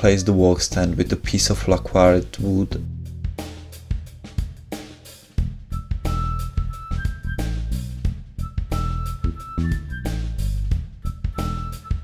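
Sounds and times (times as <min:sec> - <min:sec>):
bass line: 0:00.0 - 0:12.0
drum kit beat: 0:00.0 - 0:12.0
funk music: 0:00.0 - 0:12.0.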